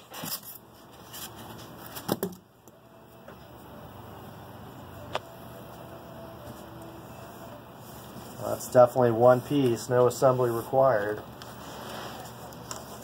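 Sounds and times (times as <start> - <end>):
faint steady hum: 0.4 - 13.0.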